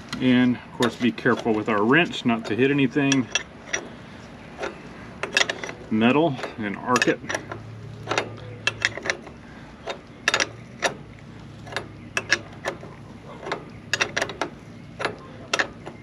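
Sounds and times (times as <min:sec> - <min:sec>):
ratchet wrench clicking: 0:00.8 - 0:03.9, 0:04.6 - 0:11.0, 0:11.6 - 0:16.0.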